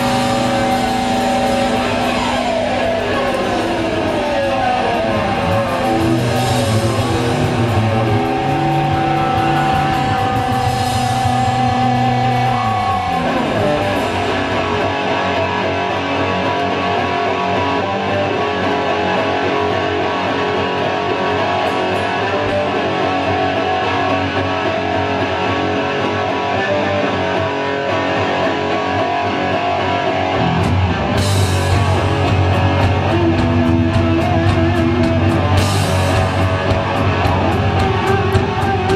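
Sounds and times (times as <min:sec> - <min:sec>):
distorted electric guitar: 0:00.0 - 0:38.9
live rock band: 0:00.0 - 0:38.9.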